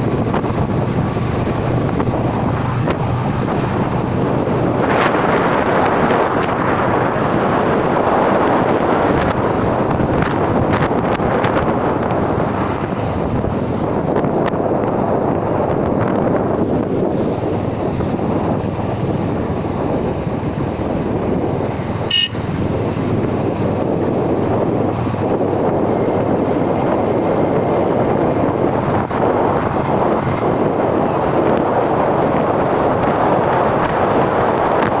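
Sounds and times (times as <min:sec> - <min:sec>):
vehicle driving on road: 0:00.0 - 0:35.0
wind buffeting microphone: 0:00.0 - 0:35.0.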